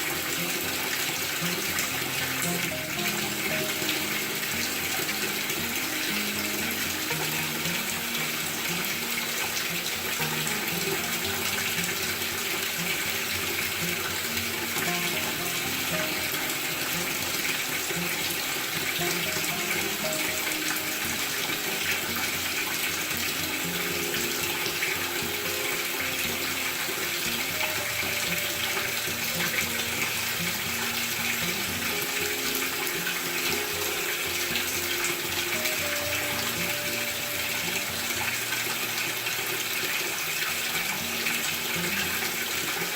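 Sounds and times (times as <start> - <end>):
background music: 0.0 - 42.9
water pouring into washing machine: 0.0 - 42.9.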